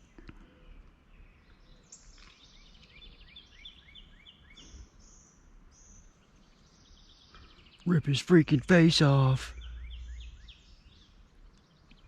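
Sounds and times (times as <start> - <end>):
outdoor background hiss: 0.0 - 12.0
small bird chirping: 0.0 - 12.0.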